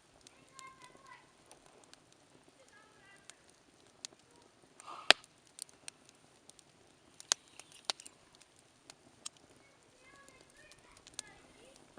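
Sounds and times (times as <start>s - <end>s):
campfire crackling and popping: 0.0s - 11.9s.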